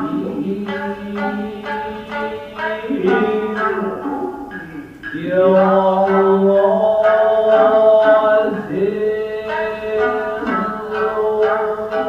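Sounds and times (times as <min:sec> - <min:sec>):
chant-like singing: 0:00.0 - 0:12.0
plucked string accompaniment: 0:00.0 - 0:12.0.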